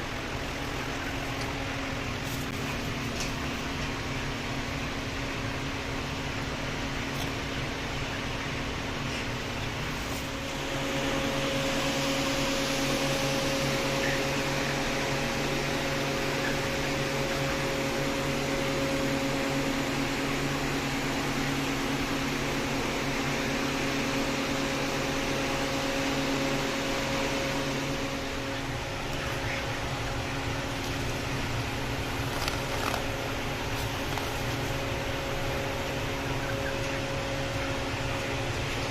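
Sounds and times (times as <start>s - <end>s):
machine hum: 0.0s - 38.9s.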